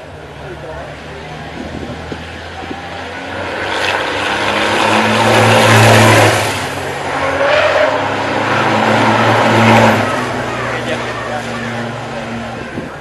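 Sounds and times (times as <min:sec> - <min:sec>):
racing engines passing: 0:00.0 - 0:13.0.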